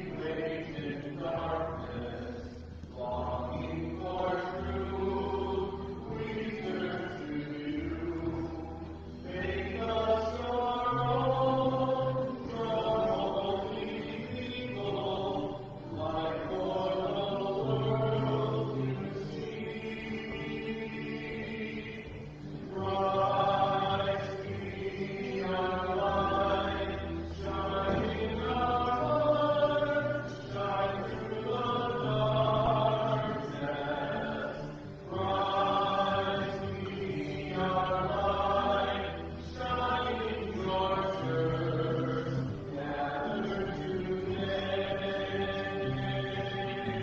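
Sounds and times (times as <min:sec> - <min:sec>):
church music with long held notes: 0:00.0 - 0:47.0
hymn singing: 0:00.0 - 0:47.0
low accompaniment chords: 0:00.0 - 0:47.0.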